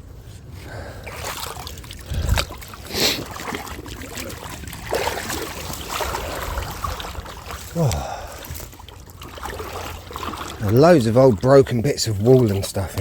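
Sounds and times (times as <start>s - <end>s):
water splashing around wading legs: 0.9s - 13.0s.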